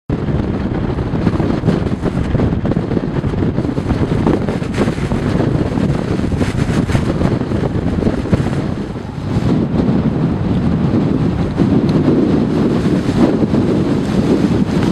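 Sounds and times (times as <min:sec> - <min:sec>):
blizzard wind buffeting microphone: 0:00.1 - 0:14.9.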